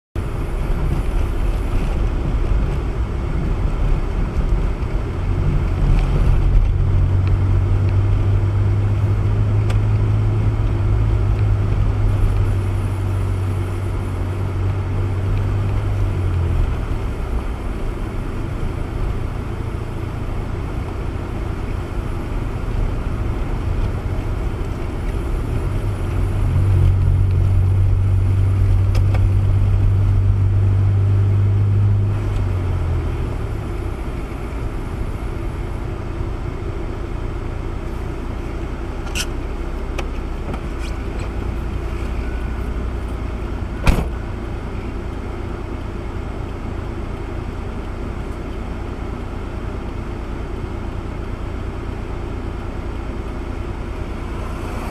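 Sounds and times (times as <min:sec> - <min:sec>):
road and tyre rumble: 0:00.0 - 0:54.9
car engine drone: 0:00.2 - 0:54.9.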